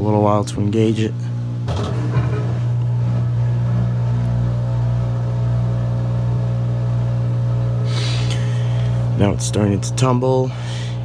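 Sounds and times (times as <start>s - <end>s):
washer drum motor humming: 0.0s - 11.0s.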